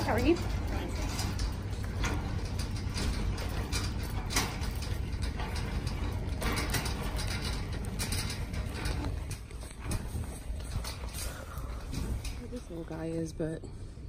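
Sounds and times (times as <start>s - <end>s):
cart clicks and knocks: 0.0s - 13.6s
shopping cart rolling on hard floor: 0.0s - 13.6s.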